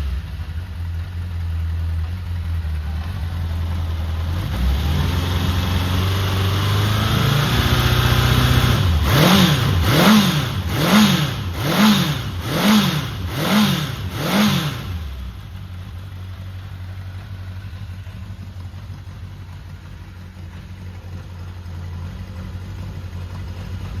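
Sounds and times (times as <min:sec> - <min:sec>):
motorcycle engine idling: 0:00.0 - 0:07.0, 0:07.7 - 0:24.0
motorcycle engine revving: 0:00.0 - 0:24.0.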